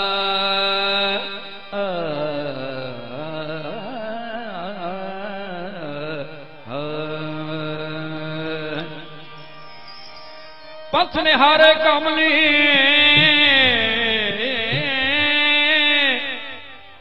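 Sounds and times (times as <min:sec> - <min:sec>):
man singing wordless melody: 0:00.0 - 0:09.7, 0:10.7 - 0:17.0.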